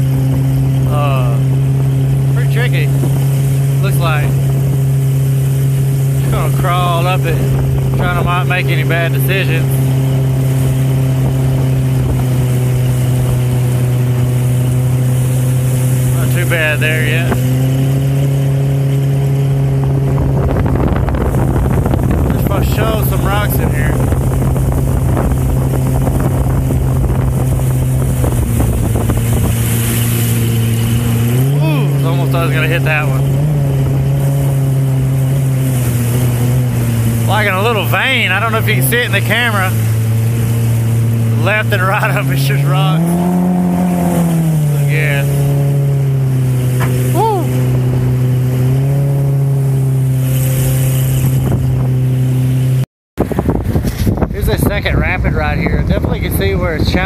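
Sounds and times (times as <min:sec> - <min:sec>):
outboard jet motor running: 0:00.0 - 0:57.0
rushing water: 0:00.0 - 0:57.0
wind on microphone: 0:00.0 - 0:57.0.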